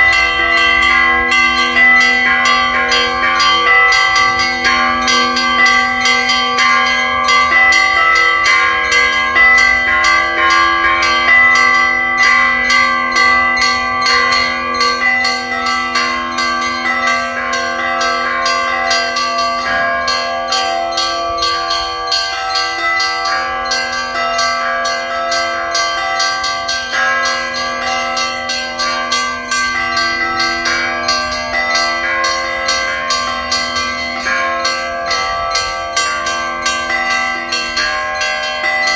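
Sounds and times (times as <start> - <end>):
large bells ringing: 0.0 - 38.9
small bells struck rapidly: 0.0 - 38.9.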